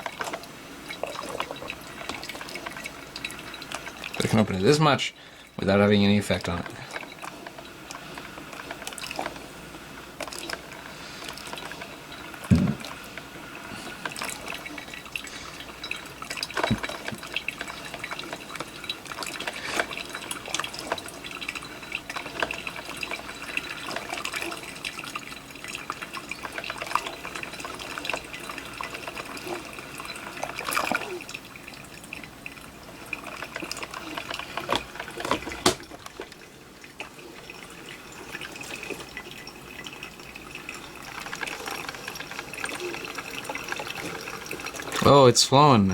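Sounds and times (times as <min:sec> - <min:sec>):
coffee maker dripping: 0:00.0 - 0:45.9.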